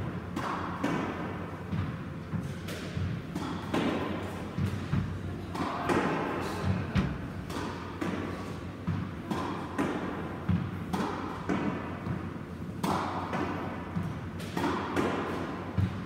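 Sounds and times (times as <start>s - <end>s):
squash ball smacks and thuds: 0.3s - 16.0s.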